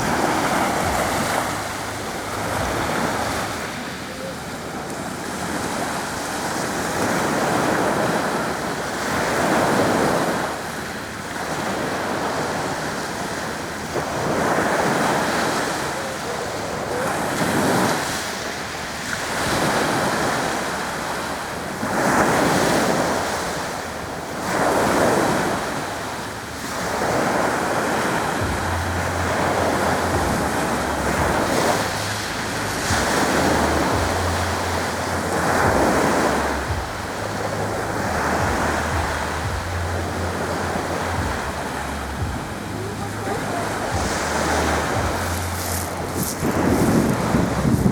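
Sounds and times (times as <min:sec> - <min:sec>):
sea waves washing ashore: 0:00.0 - 0:47.9
wind rumbling on microphone: 0:00.0 - 0:47.9.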